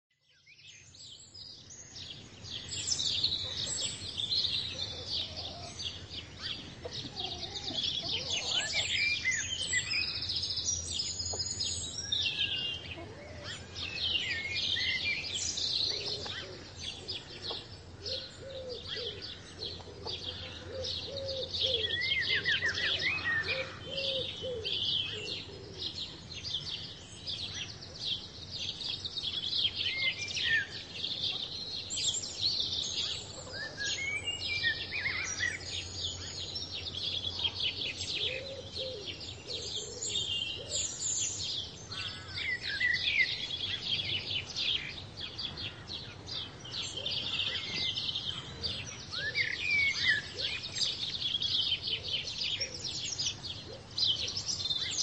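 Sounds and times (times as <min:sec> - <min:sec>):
songbirds chirping and trilling: 0:00.1 - 0:55.0
lower repeated bird calls: 0:01.6 - 0:55.0.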